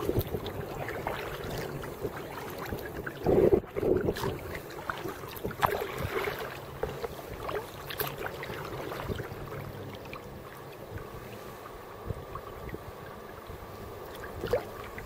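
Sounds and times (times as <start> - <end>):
paddle strokes splashing: 0.0 - 15.0
water sloshing around hull: 0.0 - 15.0.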